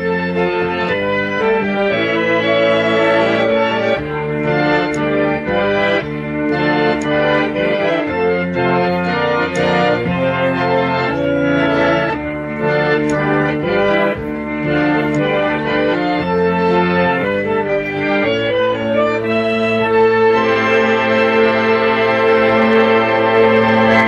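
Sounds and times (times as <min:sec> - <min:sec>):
harmonium chords: 0:00.0 - 0:24.0.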